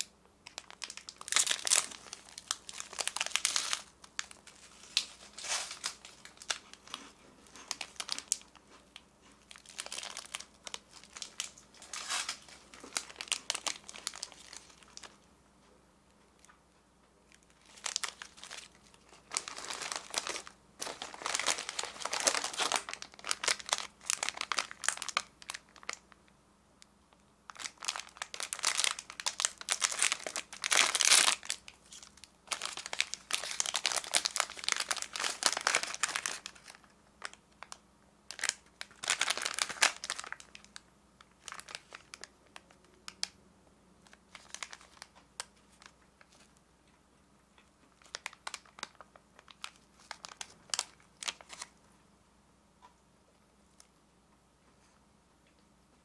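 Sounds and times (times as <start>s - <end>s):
plastic wrappers crinkling: 0.0s - 15.3s, 17.3s - 26.1s, 27.5s - 43.4s, 44.0s - 46.6s, 47.6s - 51.9s.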